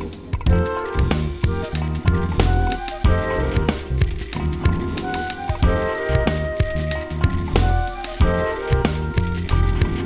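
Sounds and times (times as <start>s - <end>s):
steady drum beat: 0.0s - 10.0s
sustained instrumental notes: 0.5s - 10.0s.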